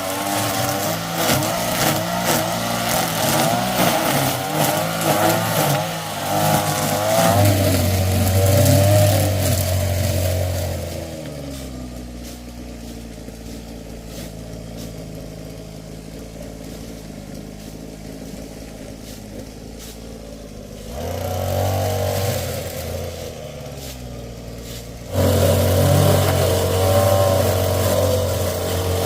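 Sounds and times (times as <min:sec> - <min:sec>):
engine running and revving: 0:00.0 - 0:29.0.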